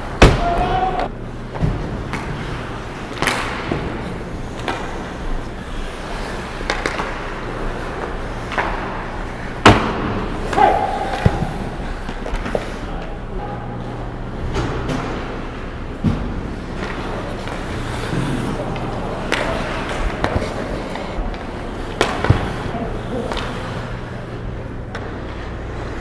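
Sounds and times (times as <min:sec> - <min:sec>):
skate blades scraping ice: 0:00.0 - 0:13.0, 0:14.7 - 0:26.0
hockey sticks clacking: 0:00.0 - 0:26.0
sharp puck impacts: 0:00.1 - 0:12.9, 0:14.5 - 0:25.5.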